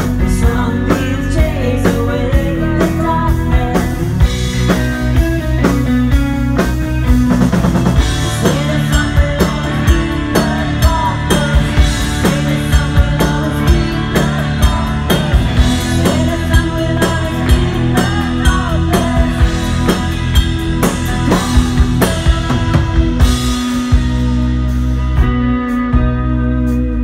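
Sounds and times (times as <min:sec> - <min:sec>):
drum kit beat: 0:00.0 - 0:26.9
electric guitars: 0:00.0 - 0:27.0.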